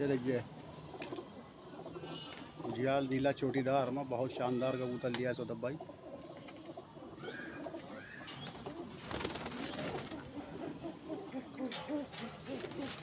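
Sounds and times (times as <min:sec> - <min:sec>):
birds rustling: 0:00.0 - 0:13.0
pigeons cooing: 0:00.0 - 0:13.0.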